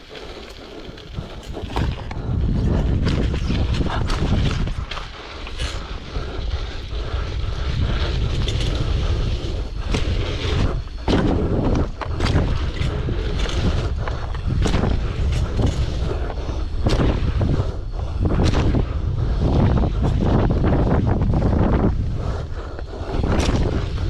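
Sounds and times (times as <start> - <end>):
hissing surges: 0.0 - 24.0
wind buffeting microphone: 0.0 - 24.0.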